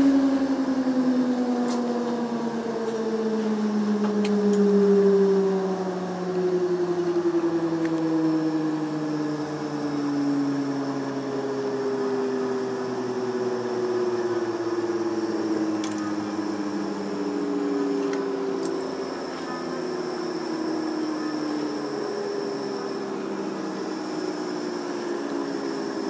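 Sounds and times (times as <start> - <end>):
jet engine whine and rush: 0.0 - 26.0.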